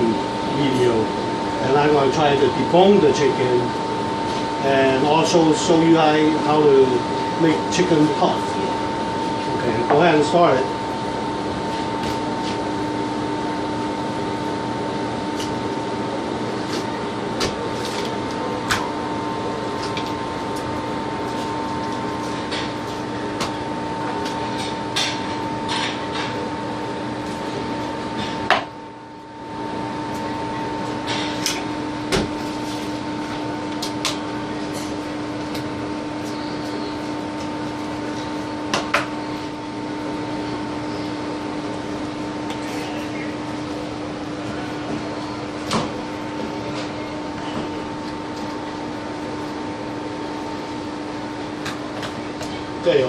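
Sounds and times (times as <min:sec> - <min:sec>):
appliance hum: 0:00.0 - 0:53.0.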